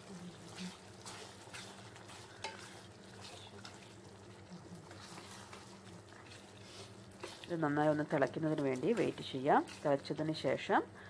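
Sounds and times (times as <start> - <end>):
wooden spoon scraping a pot: 0.0 - 10.6
light sizzle: 0.0 - 11.0.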